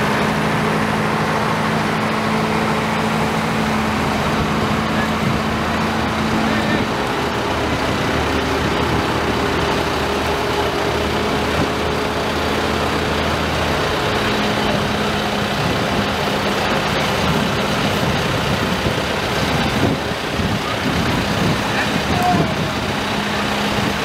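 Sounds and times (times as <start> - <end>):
tractor diesel engine passing: 0.0 - 24.0.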